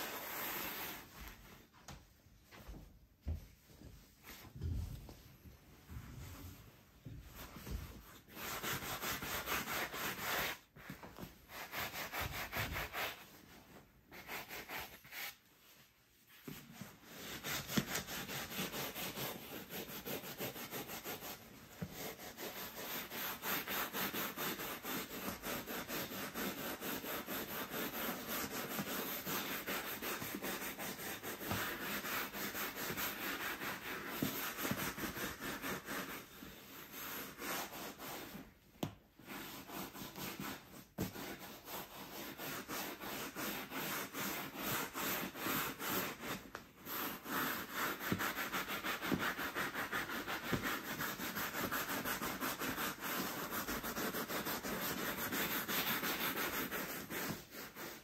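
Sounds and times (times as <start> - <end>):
brush scrubbing leather: 7.4 - 13.4, 14.1 - 15.4, 16.4 - 38.5, 39.3 - 58.0.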